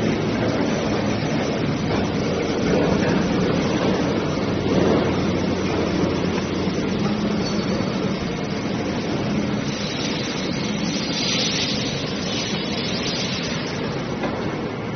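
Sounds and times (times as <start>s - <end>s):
injection moulding machine running: 0.0s - 14.9s.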